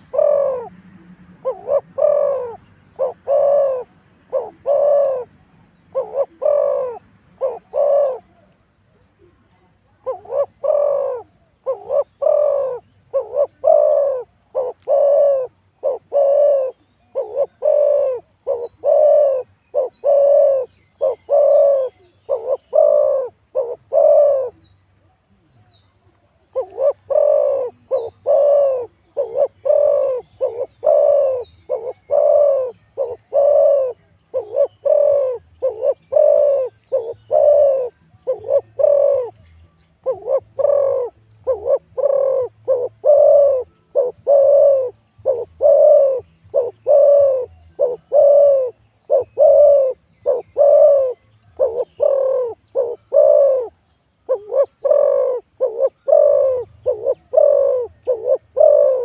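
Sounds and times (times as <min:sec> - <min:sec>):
doves cooing: 0:00.0 - 0:24.8, 0:26.4 - 0:59.0.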